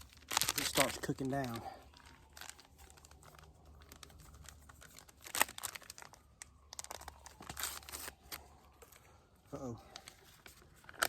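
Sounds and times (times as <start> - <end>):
paper packets tearing and crinkling: 0.0 - 11.0.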